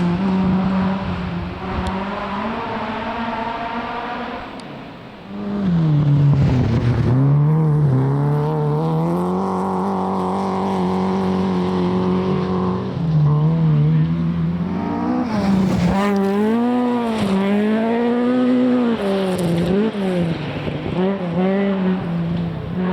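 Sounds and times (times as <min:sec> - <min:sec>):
rally car engine passing: 0:00.0 - 0:22.9.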